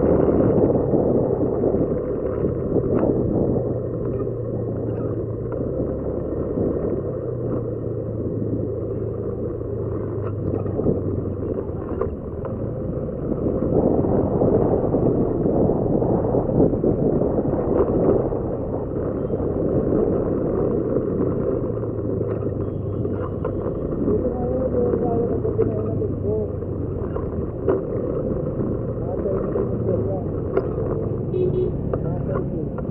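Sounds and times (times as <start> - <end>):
motorcycle engine running: 0.0 - 32.9
wind and road noise: 0.0 - 32.9.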